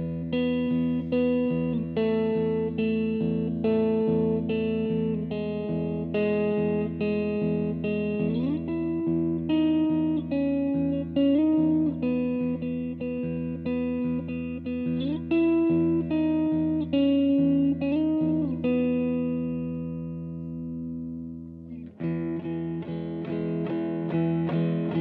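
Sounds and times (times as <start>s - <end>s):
electric guitar playing: 0.0s - 25.0s.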